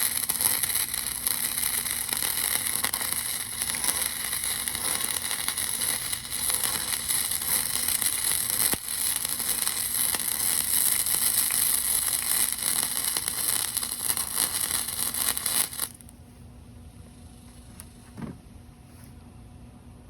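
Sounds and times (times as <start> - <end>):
arc welding crackling hiss: 0.0 - 16.1.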